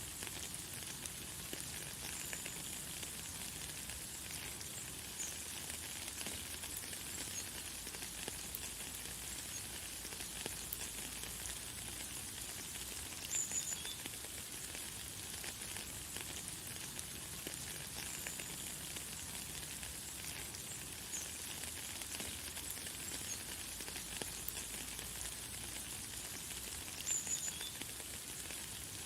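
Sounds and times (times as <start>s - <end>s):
light rain pattering: 0.0s - 29.0s.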